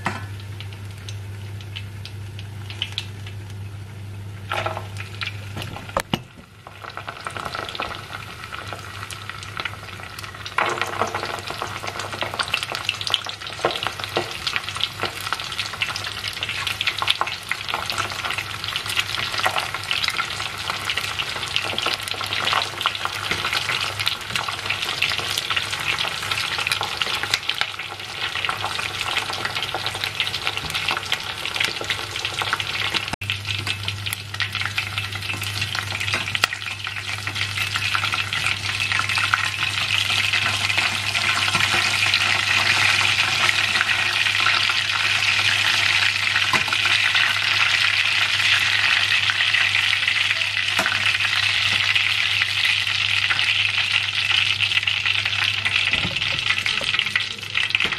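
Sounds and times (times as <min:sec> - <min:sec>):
oil sizzling and crackling: 0:00.0 - 0:57.9.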